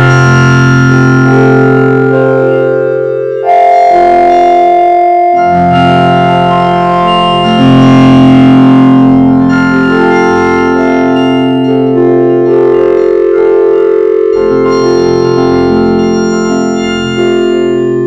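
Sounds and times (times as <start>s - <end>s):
vocoder synthesizer chords: 0.0s - 18.0s.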